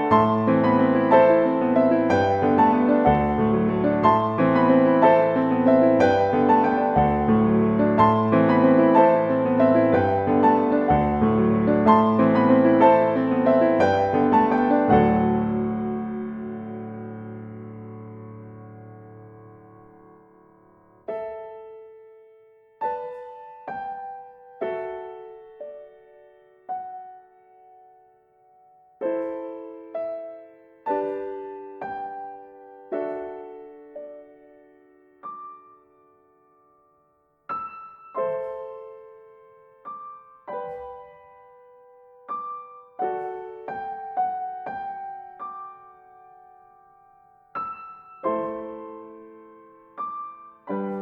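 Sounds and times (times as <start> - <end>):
gentle solo piano: 0.0 - 51.0.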